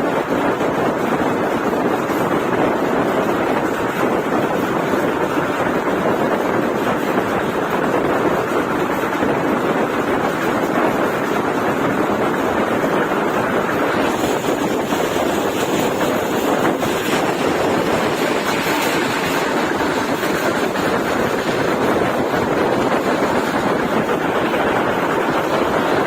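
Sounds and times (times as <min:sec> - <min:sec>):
train rushing noise: 0:00.0 - 0:26.0
wind buffeting microphone: 0:00.0 - 0:26.0.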